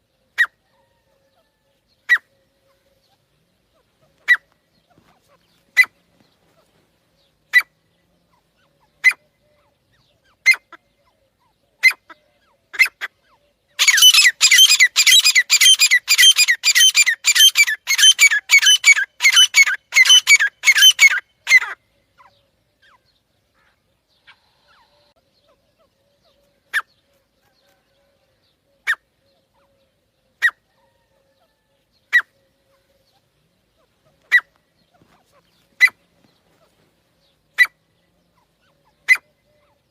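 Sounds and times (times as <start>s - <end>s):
francolin calling: 0.0s - 39.9s.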